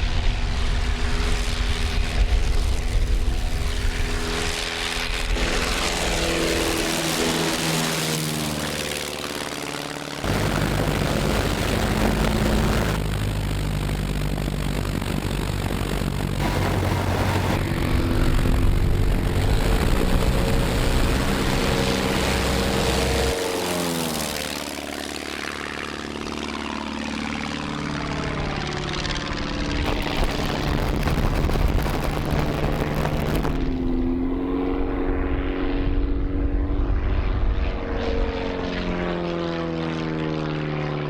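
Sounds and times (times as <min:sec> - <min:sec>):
propeller aircraft passing: 0:00.0 - 0:41.0.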